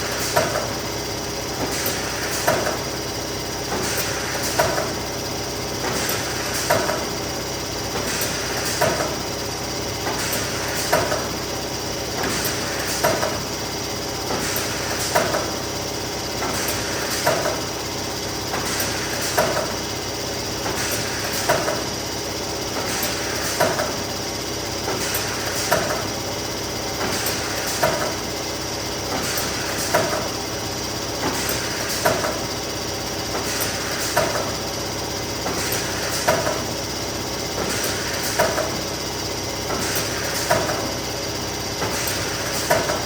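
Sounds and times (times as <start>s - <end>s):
laminating machine running: 0.0s - 43.0s.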